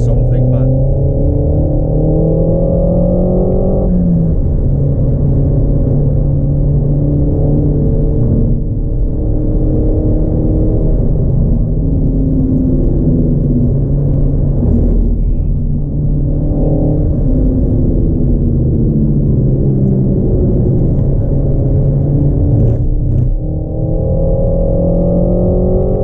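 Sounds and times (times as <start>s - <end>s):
car engine pulling hard: 0.0s - 26.0s
low road rumble: 0.0s - 26.0s.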